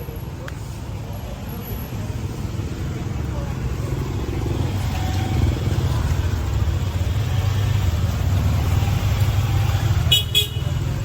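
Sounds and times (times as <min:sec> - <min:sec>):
motorbikes and cars passing: 0:00.0 - 0:11.0.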